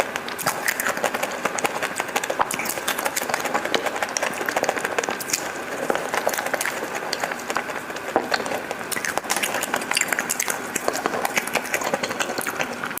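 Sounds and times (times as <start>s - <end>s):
crunchy chewing: 0.0s - 13.0s
wet smacking clicks: 0.1s - 13.0s.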